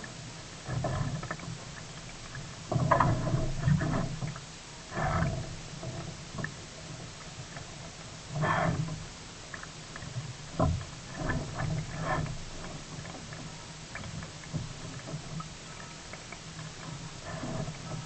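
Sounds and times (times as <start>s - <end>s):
paddle strokes splashing: 0.0s - 18.0s.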